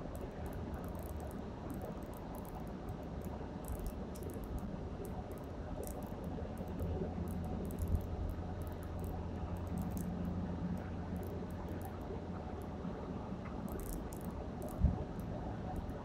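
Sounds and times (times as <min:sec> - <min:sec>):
faint ticks and rattles: 0:00.0 - 0:16.0.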